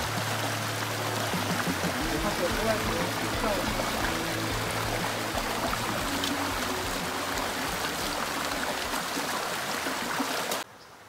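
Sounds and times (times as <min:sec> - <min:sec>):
stream splashing over stones: 0:00.0 - 0:10.7.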